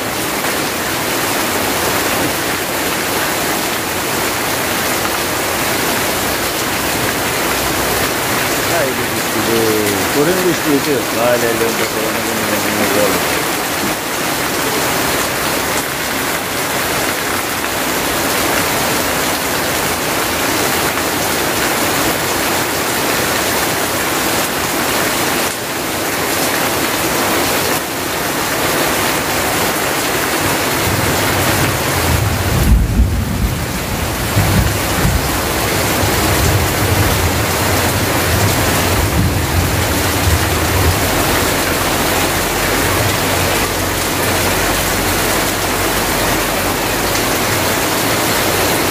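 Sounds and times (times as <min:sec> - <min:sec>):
heavy rain falling: 0:00.0 - 0:48.9
water pouring off roof: 0:00.0 - 0:48.9.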